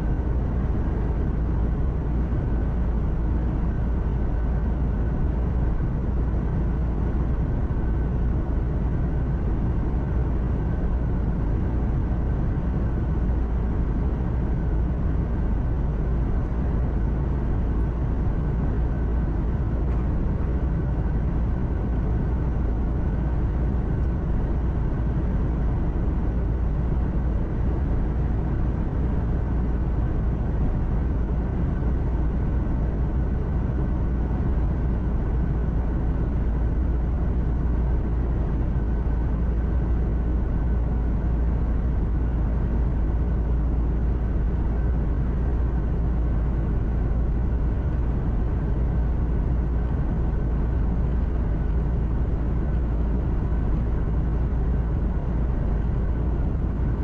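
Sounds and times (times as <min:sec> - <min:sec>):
faint steady whine: 0:00.0 - 0:57.0
truck engine hum and road rumble: 0:00.0 - 0:57.0.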